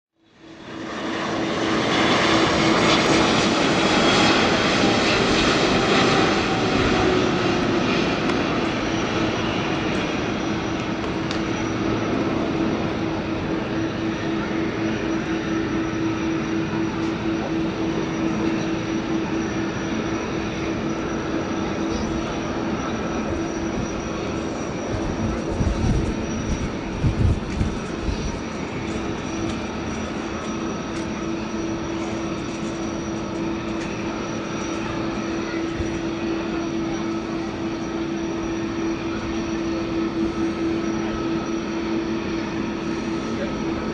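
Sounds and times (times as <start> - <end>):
jet engine drone and whine: 0.2 - 43.9.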